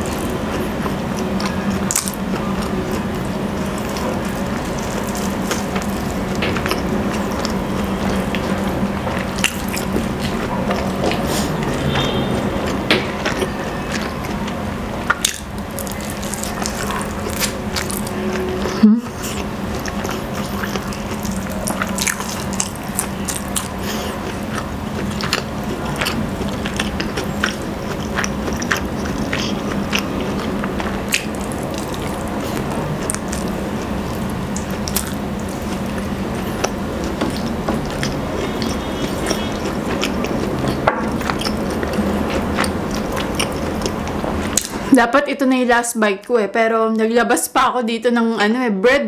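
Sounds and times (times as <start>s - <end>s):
wet chewing and biting: 0.0s - 44.9s.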